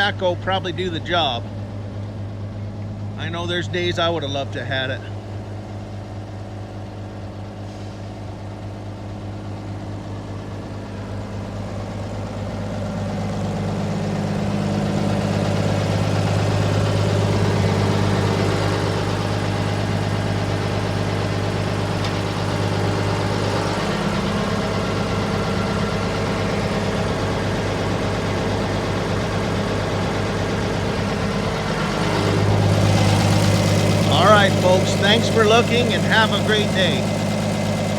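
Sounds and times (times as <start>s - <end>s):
backhoe engine humming: 0.0s - 37.9s.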